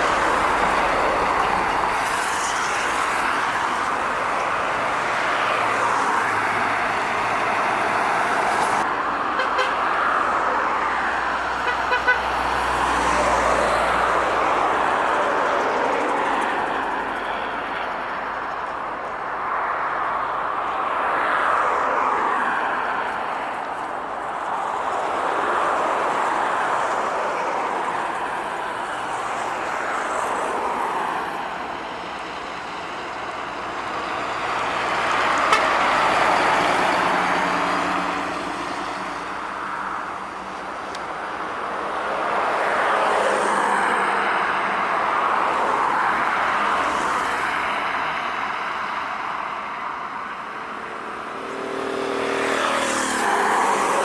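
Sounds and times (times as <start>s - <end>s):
trucks and cars passing: 0.0s - 54.0s.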